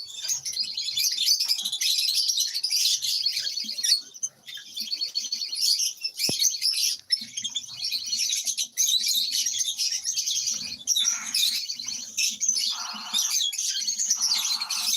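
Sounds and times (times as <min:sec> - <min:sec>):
lovebirds chirping: 0:00.0 - 0:14.9.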